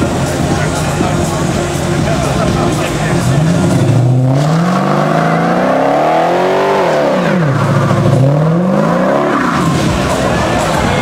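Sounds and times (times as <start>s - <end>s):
car engine revving: 0.0s - 11.0s
tyres spinning in burnout: 0.1s - 11.0s.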